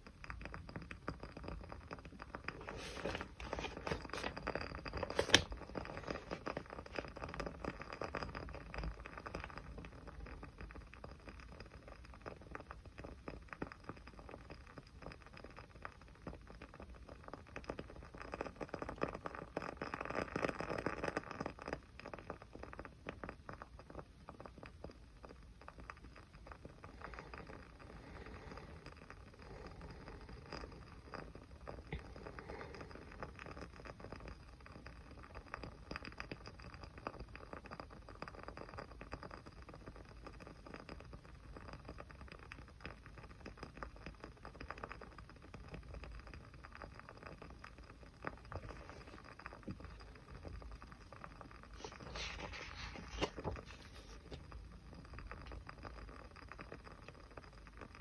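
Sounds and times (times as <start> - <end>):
small fire crackling: 0.0 - 58.0.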